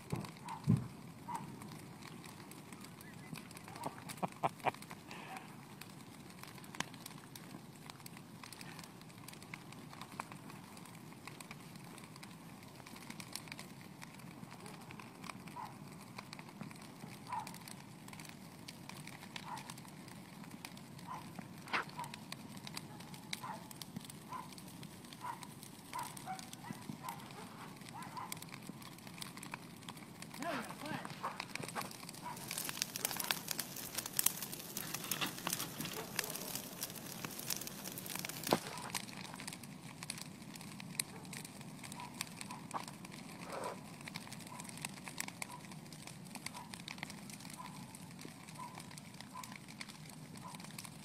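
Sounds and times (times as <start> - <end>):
bonfire crackling and popping: 0.0 - 51.0.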